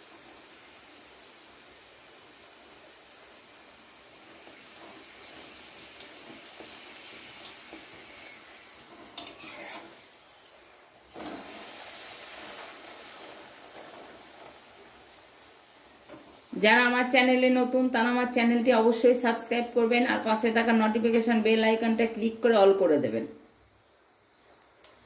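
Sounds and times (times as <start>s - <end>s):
oil sizzling while deep-frying: 0.0s - 22.5s.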